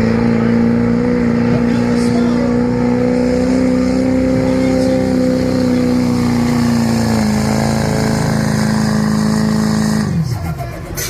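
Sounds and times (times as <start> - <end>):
truck engine revving high: 0.0 - 11.0.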